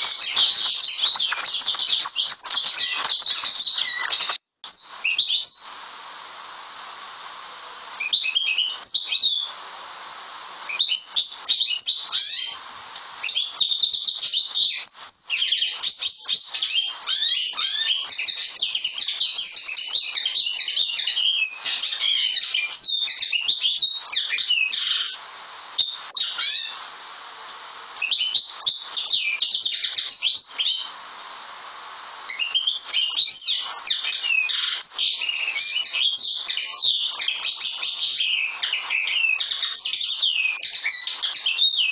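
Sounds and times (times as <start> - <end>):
bird twittering song: 0.0 - 5.8, 8.0 - 9.6, 10.7 - 12.6, 13.2 - 25.2, 25.8 - 26.8, 28.0 - 31.0, 32.3 - 41.9.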